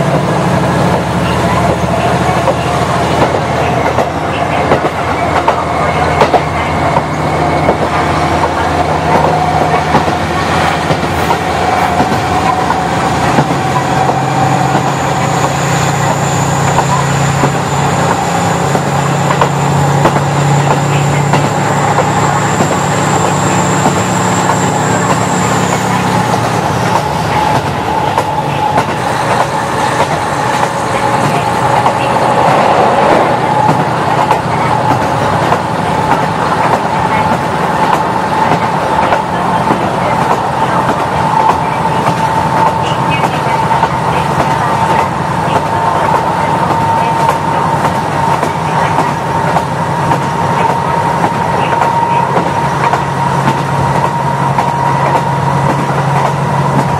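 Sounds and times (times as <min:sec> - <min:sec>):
diesel engine drone: 0:00.0 - 0:56.9.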